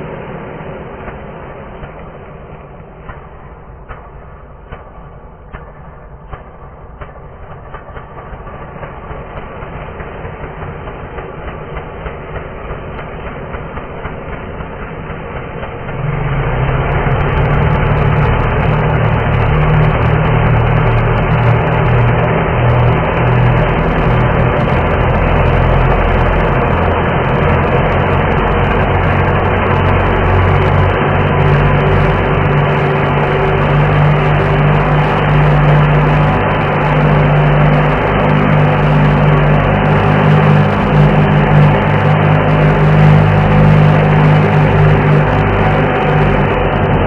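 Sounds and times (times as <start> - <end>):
slowed chainsaw engine with reverb: 0.0 - 47.0.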